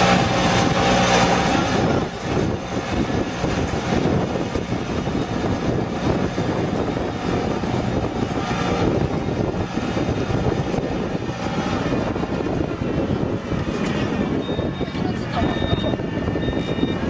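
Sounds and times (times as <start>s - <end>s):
rice transplanter engine running: 0.0s - 17.0s.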